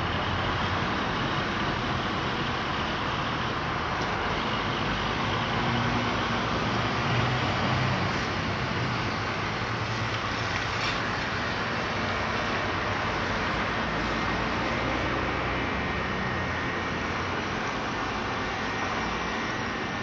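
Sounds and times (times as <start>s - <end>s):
street traffic noise: 0.0s - 20.0s
truck diesel engine drone: 0.0s - 20.0s.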